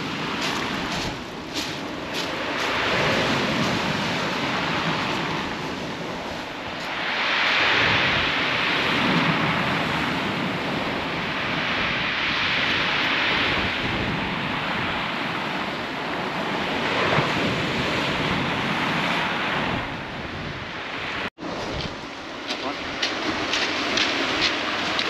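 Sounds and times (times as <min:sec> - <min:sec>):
surf washing over shingle: 0:00.0 - 0:20.0, 0:20.9 - 0:25.0
wind buffeting microphone: 0:00.0 - 0:25.0.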